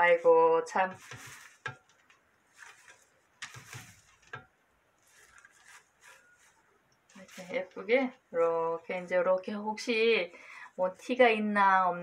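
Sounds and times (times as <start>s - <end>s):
rustling of leafy greens: 0.0s - 11.9s.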